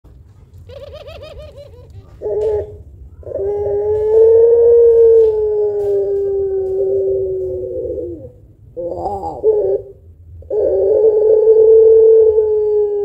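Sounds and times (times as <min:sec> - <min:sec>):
dove cooing: 0:00.6 - 0:13.0.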